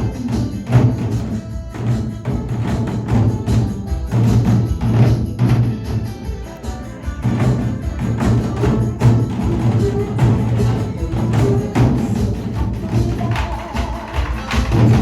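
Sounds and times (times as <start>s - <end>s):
backing music with bass line: 0.0s - 15.0s
rapid drumming: 0.0s - 15.0s.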